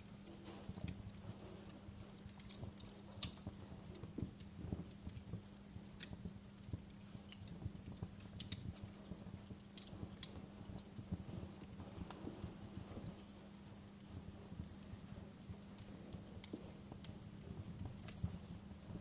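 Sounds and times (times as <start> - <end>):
faint steady hum: 0.0 - 19.0
wood fire crackling: 0.0 - 19.0.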